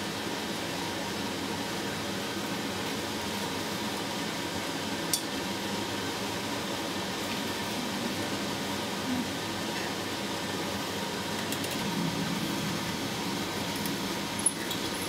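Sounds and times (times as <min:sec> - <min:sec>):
fan-like hiss: 0:00.0 - 0:15.0.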